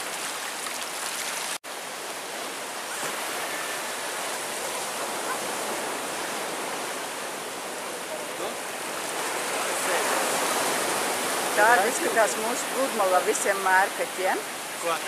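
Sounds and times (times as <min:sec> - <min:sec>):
surf waves washing on sand: 0:00.0 - 0:15.0.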